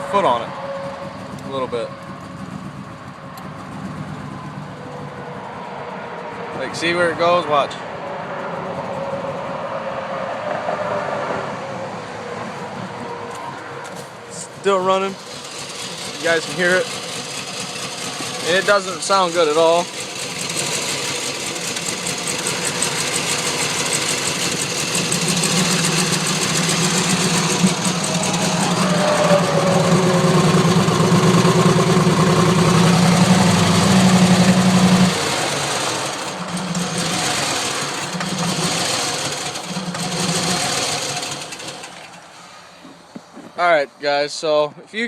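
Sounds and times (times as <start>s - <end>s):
engine running rough: 0.0s - 43.6s.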